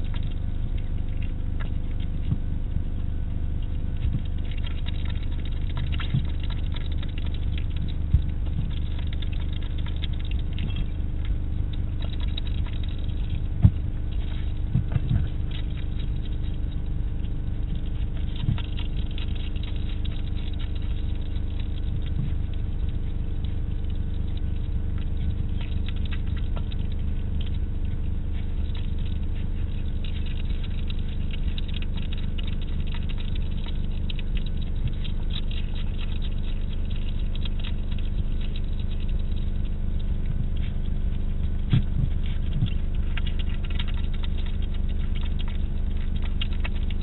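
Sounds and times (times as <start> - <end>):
hedgehog chewing food: 0.0 - 47.0
steady low hum: 0.0 - 47.0.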